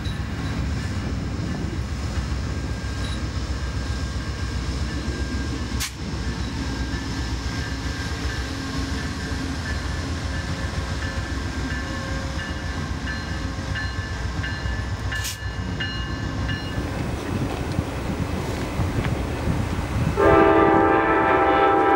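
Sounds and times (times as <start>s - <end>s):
diesel locomotives rumbling: 0.0s - 21.9s.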